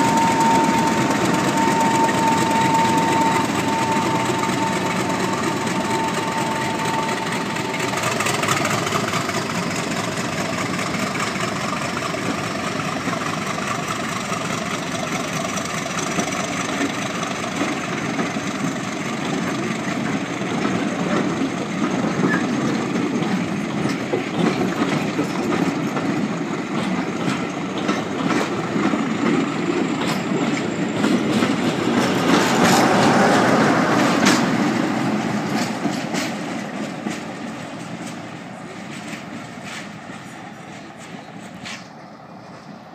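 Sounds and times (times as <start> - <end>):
diesel locomotive engine: 0.0 - 42.9
second diesel locomotive passing: 0.0 - 42.9
train wheels clicking over rail joints: 0.0 - 42.9.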